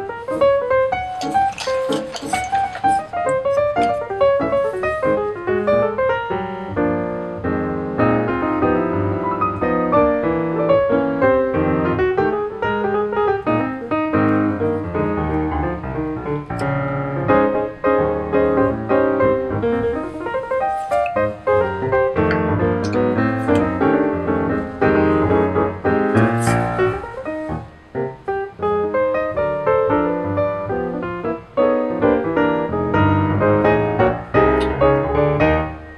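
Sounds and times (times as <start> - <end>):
piano music: 0.0 - 35.9.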